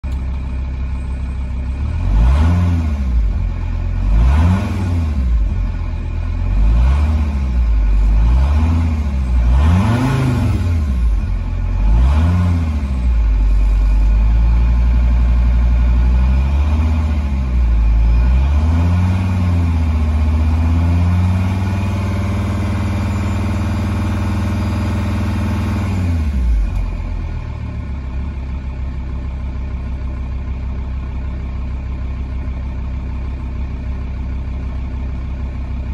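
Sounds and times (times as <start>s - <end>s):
diesel engine idling: 0.0s - 35.9s
turbodiesel engine revving: 0.0s - 35.9s.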